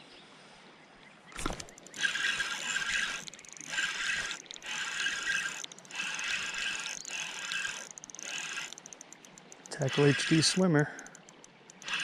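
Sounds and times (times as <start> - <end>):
fishing reel gears whirring: 1.4 - 12.0.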